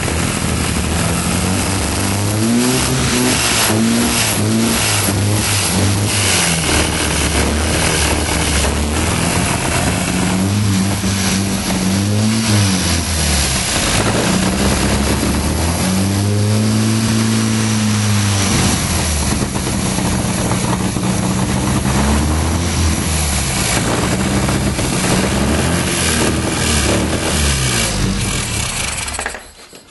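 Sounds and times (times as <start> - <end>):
car engine revving: 0.0 - 29.4.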